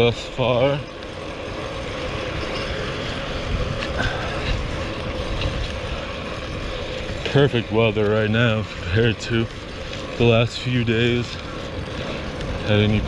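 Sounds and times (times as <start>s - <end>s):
road noise: 0.0s - 13.0s
wind rush on microphone: 0.0s - 13.0s.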